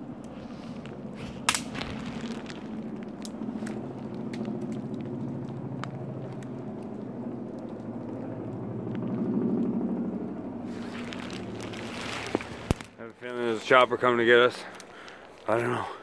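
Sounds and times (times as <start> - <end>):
helicopter rotor drone: 0.0 - 12.9.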